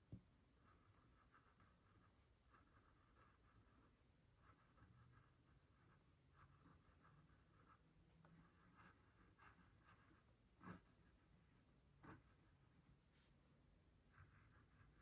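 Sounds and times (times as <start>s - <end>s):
pen scratching on paper: 0.6s - 13.3s, 14.1s - 15.0s.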